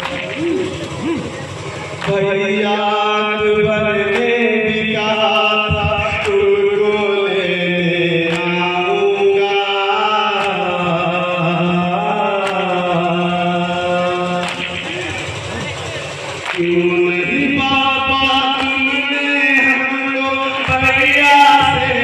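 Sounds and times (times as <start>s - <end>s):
group chanting a lament: 0.0s - 22.0s.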